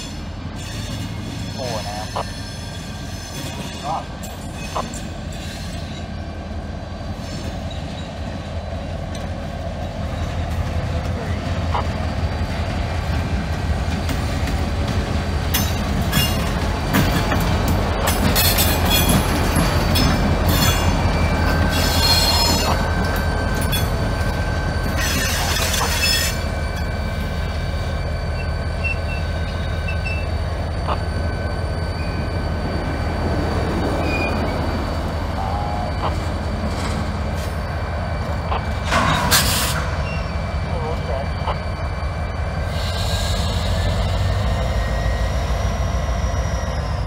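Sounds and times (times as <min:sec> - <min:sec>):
steel wheels squealing: 0:00.0 - 0:06.4, 0:07.1 - 0:12.6, 0:15.5 - 0:47.0
diesel locomotive engine rumble: 0:00.0 - 0:47.0.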